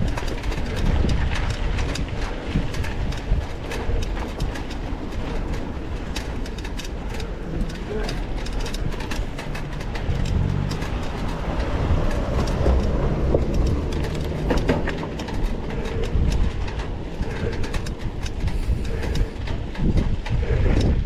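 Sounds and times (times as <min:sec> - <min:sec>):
bike rattling clicks: 0:00.0 - 0:21.0
bike tyres rumbling on dirt: 0:00.0 - 0:21.0.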